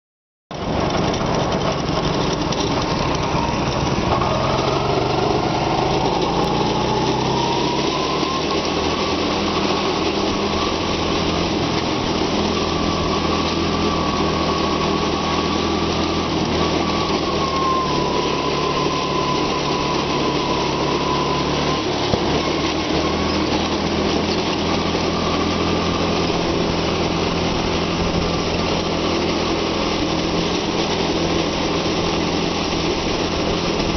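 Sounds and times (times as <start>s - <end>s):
go-kart engine whining: 0.6s - 33.9s.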